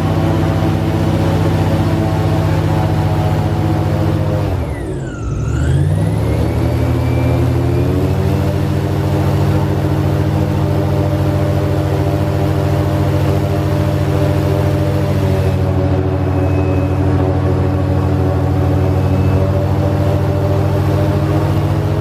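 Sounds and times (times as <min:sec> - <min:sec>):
airboat engine and propeller: 0:00.0 - 0:22.0.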